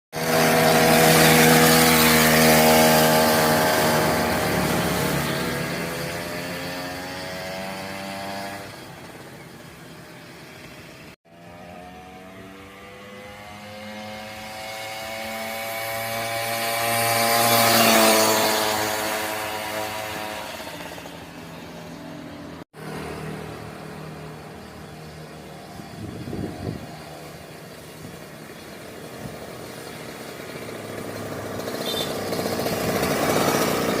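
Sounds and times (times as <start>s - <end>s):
scooter engine revving: 0.1s - 34.0s.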